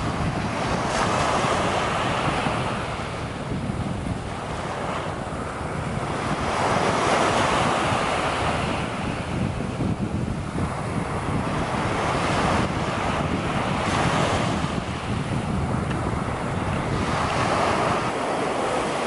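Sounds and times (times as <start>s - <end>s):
surf waves breaking on sand: 0.0s - 19.0s
wind buffeting microphone: 0.0s - 19.0s.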